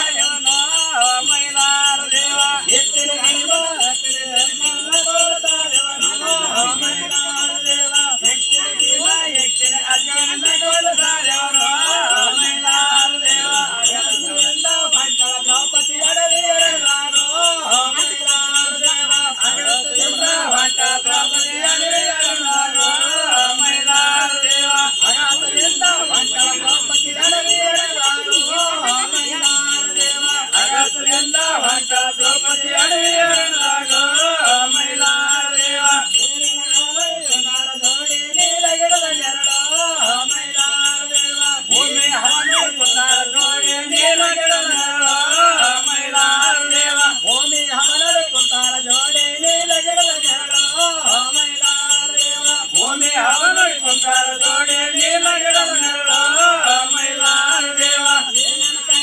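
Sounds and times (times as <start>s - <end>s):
hand cymbals jingling: 0.0s - 59.0s
men singing together: 0.0s - 59.0s.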